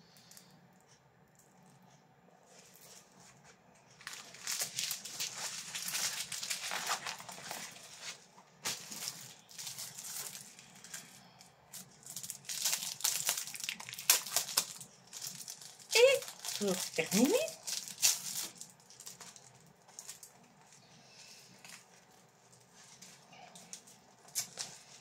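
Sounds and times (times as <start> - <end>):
plastic wrapping crinkling: 3.9 - 20.8, 21.6 - 25.0.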